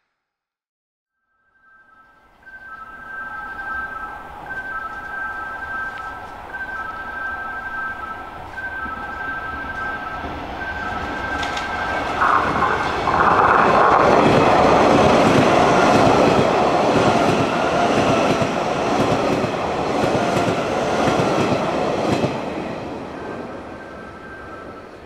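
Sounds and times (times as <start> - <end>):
electric train passing: 1.6 - 25.0.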